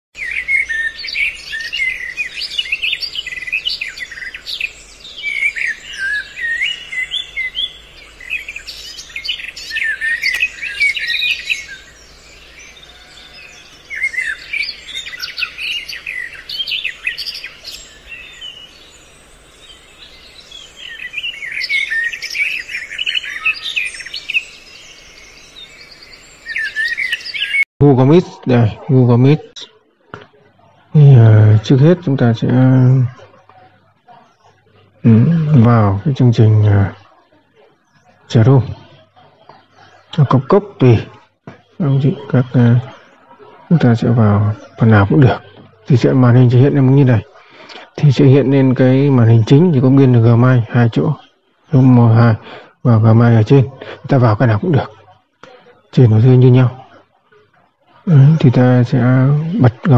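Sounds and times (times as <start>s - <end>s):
birds chirping and singing: 0.2s - 59.9s.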